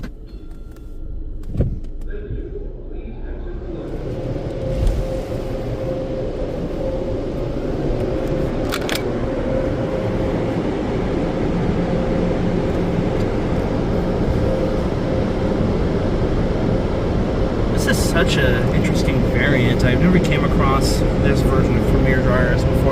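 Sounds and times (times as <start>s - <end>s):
air dryers blowing: 3.8s - 22.9s.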